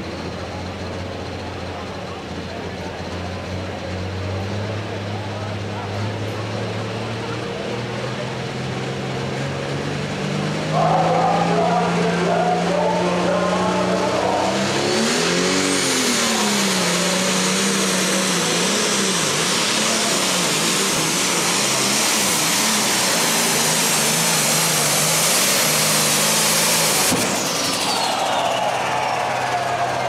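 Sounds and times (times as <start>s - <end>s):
diesel tractor engine at full throttle: 0.0s - 30.0s
high engine whine: 0.0s - 30.0s.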